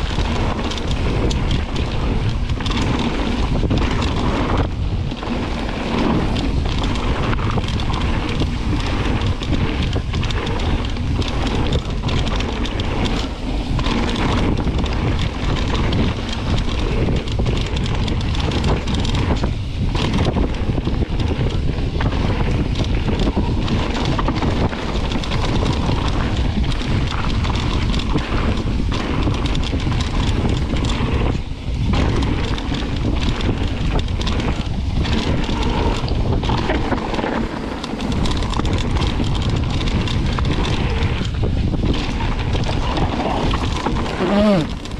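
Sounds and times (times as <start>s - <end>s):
bike tyres rolling on gravel: 0.0s - 44.9s
wind buffeting microphone: 0.0s - 44.9s.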